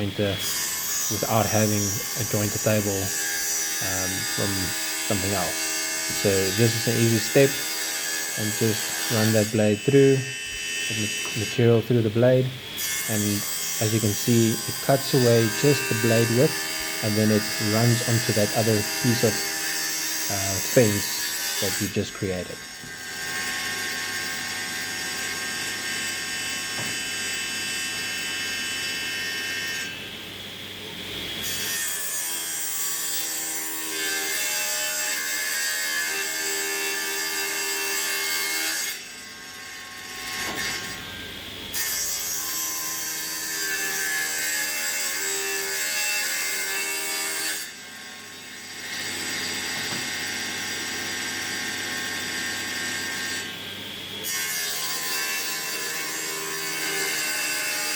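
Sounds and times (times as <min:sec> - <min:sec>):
table saw cutting boards: 0:00.0 - 0:30.1, 0:31.0 - 0:57.9.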